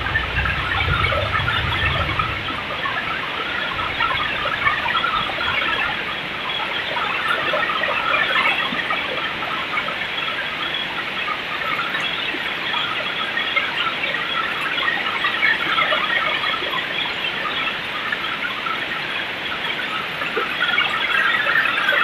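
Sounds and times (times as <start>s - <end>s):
heavy rain in strong wind: 0.0s - 22.0s.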